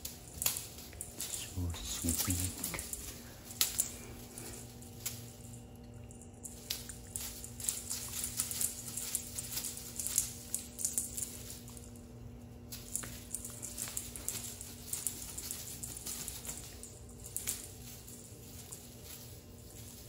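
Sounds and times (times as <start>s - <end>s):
tinsel streamers rustling: 0.0s - 20.0s.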